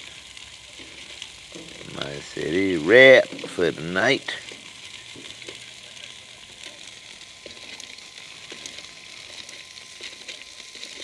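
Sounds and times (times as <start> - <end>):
meat sizzling on a grill: 0.0 - 11.0
pops and crackles: 0.0 - 11.0.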